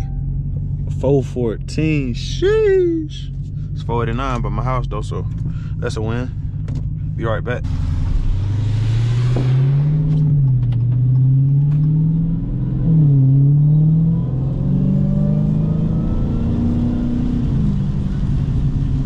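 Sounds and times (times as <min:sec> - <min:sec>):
car engine shifting gears: 0:00.0 - 0:19.0.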